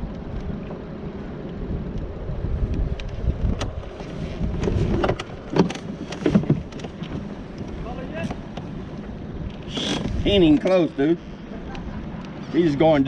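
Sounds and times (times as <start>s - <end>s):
wind rumbling on microphone: 0.0s - 10.9s.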